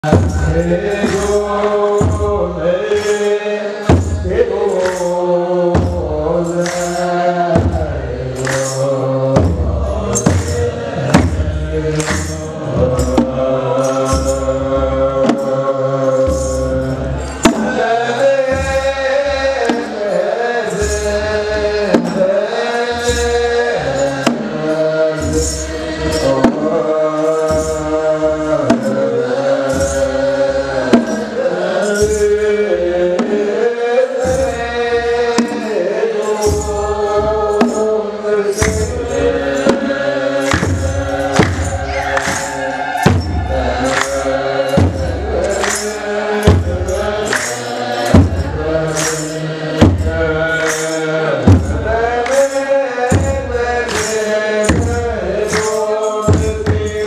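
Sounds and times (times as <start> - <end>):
drum beat: 0.0 - 33.6, 34.2 - 57.0
men chanting in unison: 0.0 - 57.0.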